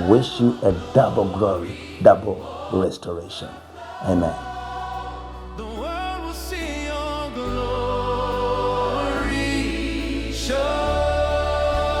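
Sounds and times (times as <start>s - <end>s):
steady bass: 0.0s - 2.7s, 4.2s - 12.0s
gospel choir singing: 0.0s - 12.0s.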